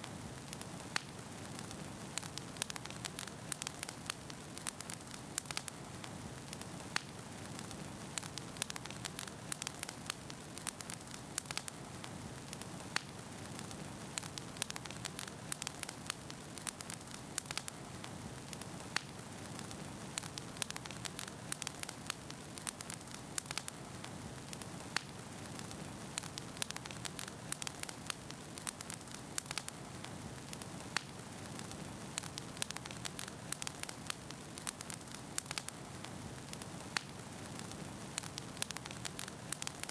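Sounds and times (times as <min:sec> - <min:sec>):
fire crackling and popping: 0:00.0 - 0:39.9
fire hiss: 0:00.0 - 0:39.9.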